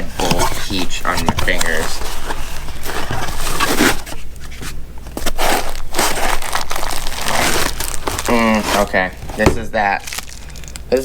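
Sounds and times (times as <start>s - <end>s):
packaging crinkling: 0.2s - 11.0s.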